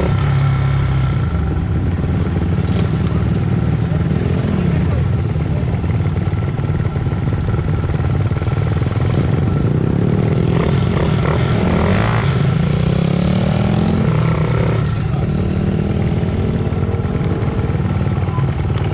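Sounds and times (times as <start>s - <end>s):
motorbike engines revving: 0.0s - 18.9s.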